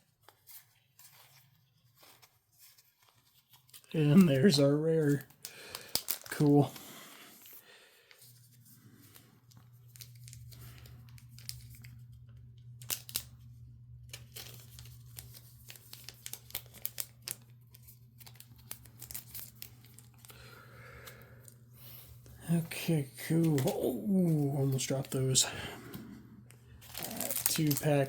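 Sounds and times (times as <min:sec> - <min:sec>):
cards and foil wrappers crinkling: 0:00.0 - 0:28.0.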